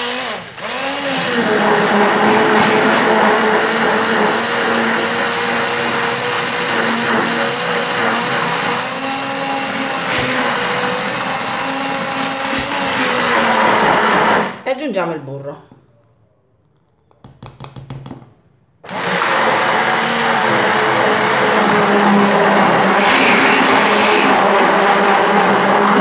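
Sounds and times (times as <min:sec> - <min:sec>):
immersion blender running: 0:00.0 - 0:14.6, 0:18.8 - 0:26.0.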